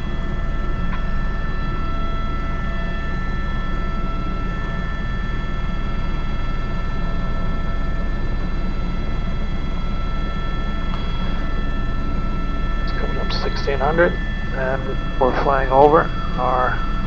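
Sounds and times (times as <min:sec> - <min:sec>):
helicopter rotor beat: 0:00.0 - 0:17.0
turbine whine: 0:00.0 - 0:17.0.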